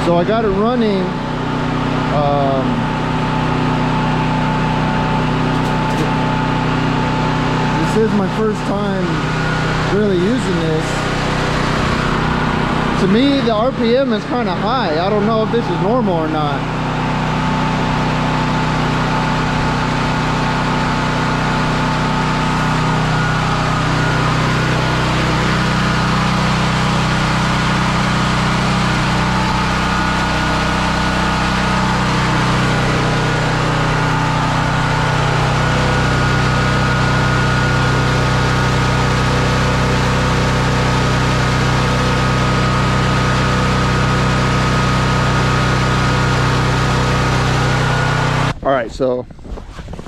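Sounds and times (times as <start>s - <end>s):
portable generator engine running: 0.0s - 50.0s.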